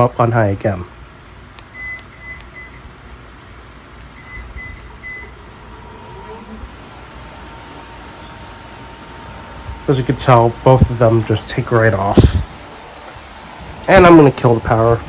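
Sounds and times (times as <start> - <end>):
fan motor whine and hum: 0.0 - 15.0.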